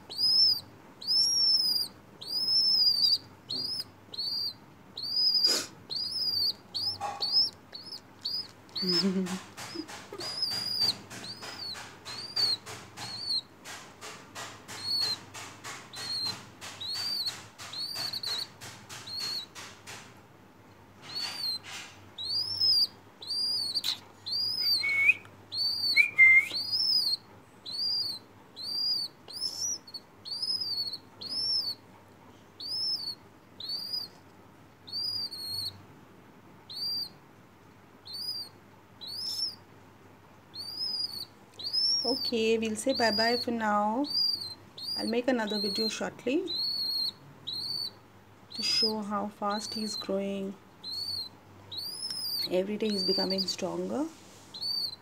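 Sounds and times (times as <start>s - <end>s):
nestling bird cheeping: 0.0s - 13.5s, 14.4s - 19.6s, 21.0s - 31.8s, 32.6s - 34.2s, 34.8s - 35.8s, 36.7s - 37.2s, 38.0s - 39.7s, 40.5s - 50.2s, 50.8s - 53.7s, 54.5s - 55.0s
beak pecking plastic spoon: 0.0s - 20.2s, 21.0s - 31.8s, 32.6s - 34.3s, 34.9s - 35.7s, 36.7s - 37.1s, 38.0s - 39.6s, 40.5s - 50.2s, 50.8s - 53.8s, 54.5s - 55.0s.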